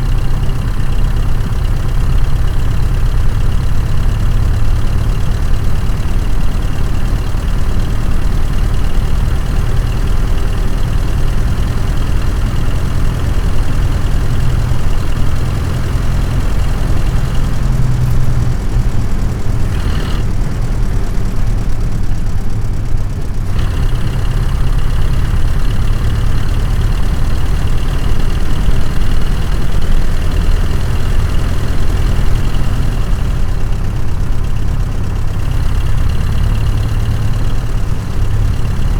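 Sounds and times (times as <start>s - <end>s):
car engine rumbling: 0.0s - 38.9s.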